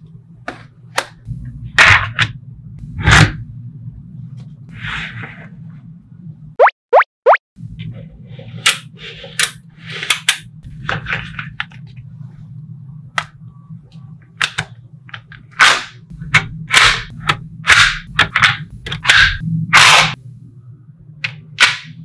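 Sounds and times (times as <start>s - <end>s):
low hum: 0.0s - 6.6s, 7.6s - 22.0s.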